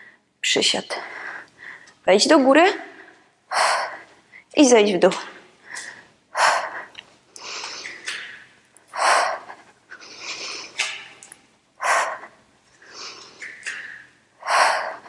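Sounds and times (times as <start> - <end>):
woman breathing hard: 0.0 - 0.3, 1.0 - 2.0, 2.8 - 4.5, 5.6 - 15.0.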